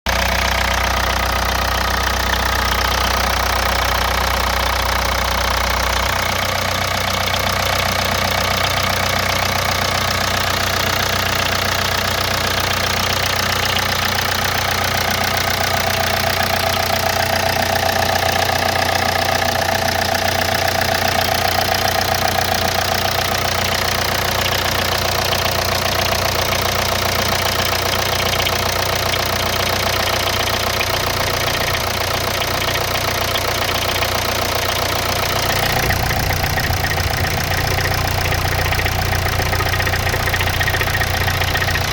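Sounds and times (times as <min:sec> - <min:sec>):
diesel engine idling with knock: 0:00.1 - 0:41.9.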